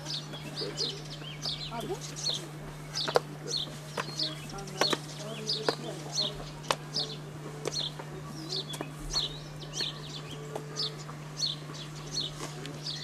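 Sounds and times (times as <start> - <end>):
bird chirping: 0.0 - 13.0
steady low hum: 0.0 - 13.0.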